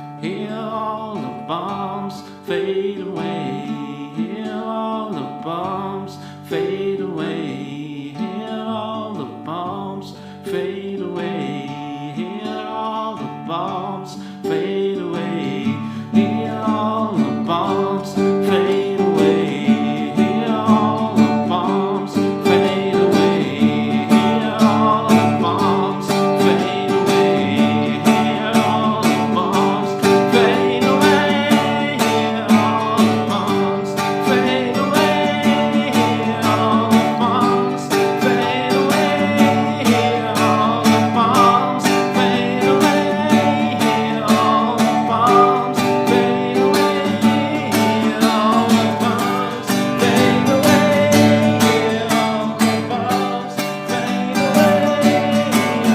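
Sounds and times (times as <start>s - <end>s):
acoustic guitar strumming: 0.0s - 55.9s.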